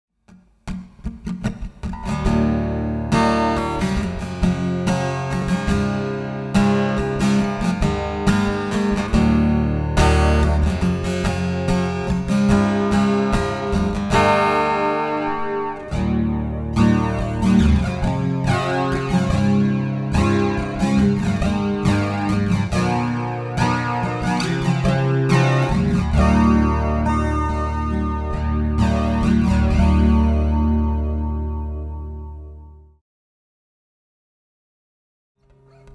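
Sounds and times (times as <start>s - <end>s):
acoustic guitar chords and notes: 0.2s - 33.0s, 35.4s - 35.9s.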